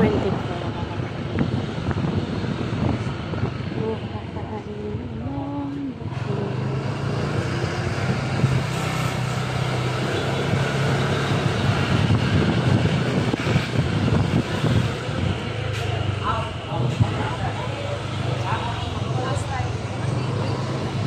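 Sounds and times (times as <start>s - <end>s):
road and wind noise: 0.0s - 21.0s
vehicle engine humming: 0.0s - 21.0s.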